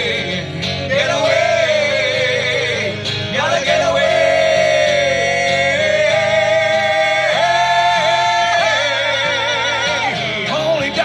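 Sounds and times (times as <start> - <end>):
guitar accompaniment: 0.0 - 11.0
man singing long high note: 0.0 - 11.0.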